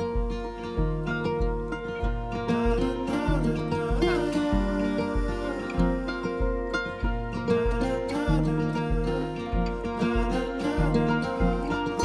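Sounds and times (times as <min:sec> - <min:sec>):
deep slow beat: 0:00.0 - 0:12.0.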